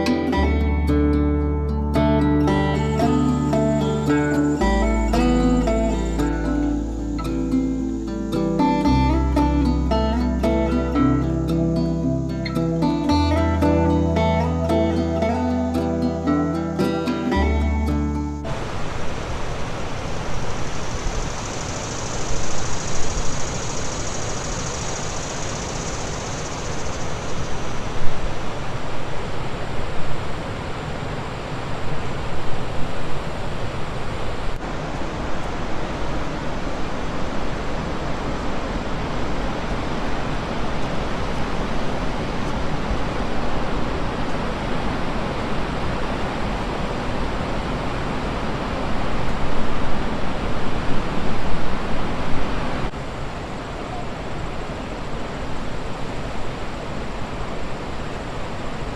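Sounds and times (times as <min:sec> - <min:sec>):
rushing water of falls and rapids: 0:02.8 - 0:17.4, 0:18.3 - 0:58.9.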